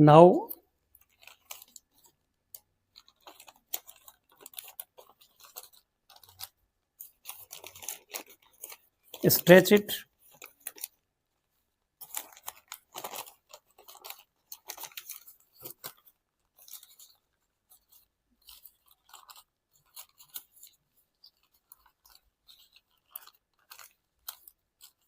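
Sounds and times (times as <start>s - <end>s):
paper crinkling and rustling: 0.9s - 25.0s.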